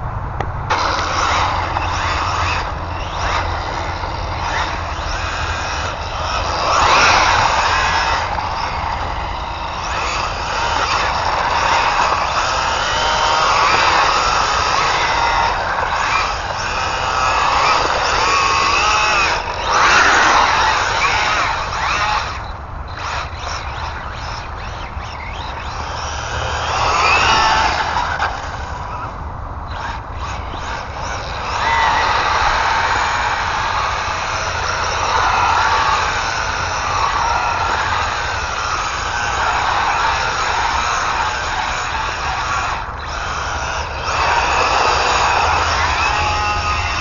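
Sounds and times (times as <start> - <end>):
tyres on ground: 0.0 - 47.0
rc car electric motor whining: 0.7 - 47.0.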